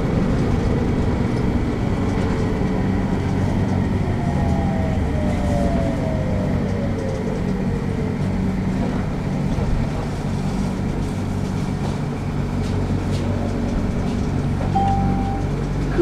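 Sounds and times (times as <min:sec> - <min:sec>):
train running hum and rumble: 0:00.0 - 0:16.0.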